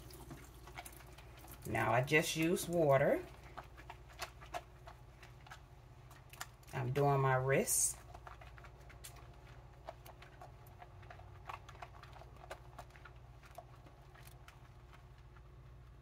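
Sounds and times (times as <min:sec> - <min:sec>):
lather clicks and crackles: 0:00.0 - 0:16.0
soapy hands squishing: 0:00.0 - 0:16.0.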